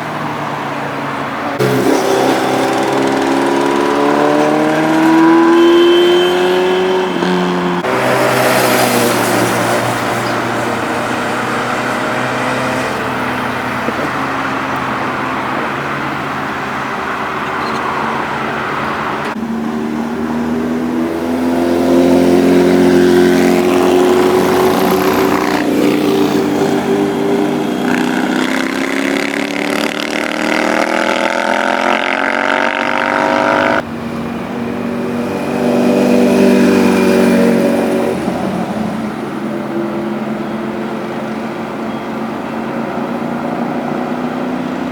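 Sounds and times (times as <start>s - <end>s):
motorcycle engines revving past: 1.6s - 44.9s.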